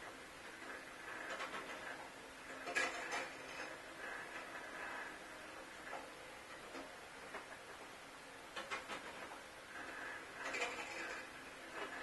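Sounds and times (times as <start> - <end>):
clockwork mechanism whirring: 0.0 - 12.0.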